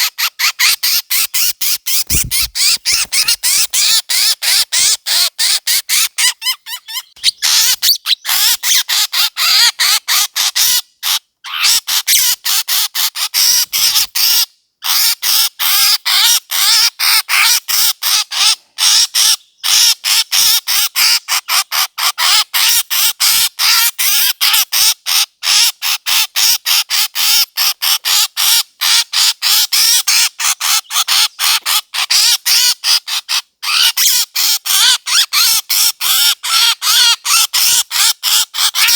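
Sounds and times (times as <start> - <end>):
harsh squawking bird calls: 0.0 - 23.0, 26.8 - 38.9.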